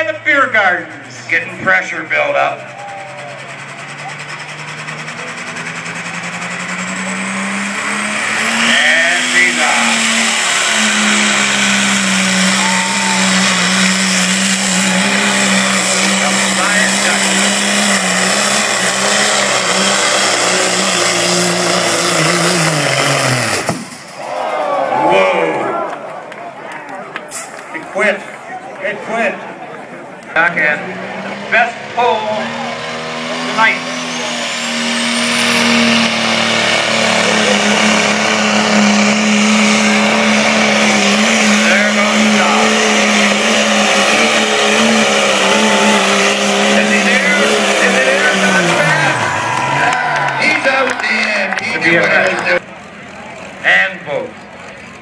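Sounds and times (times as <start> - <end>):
diesel truck engine high-revving drone: 0.0 - 26.0, 27.2 - 55.0.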